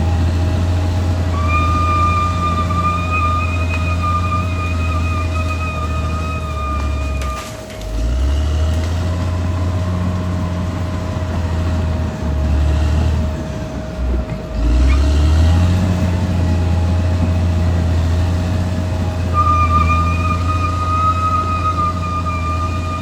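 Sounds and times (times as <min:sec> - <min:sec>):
bulldozer diesel engine drone: 0:00.0 - 0:23.0.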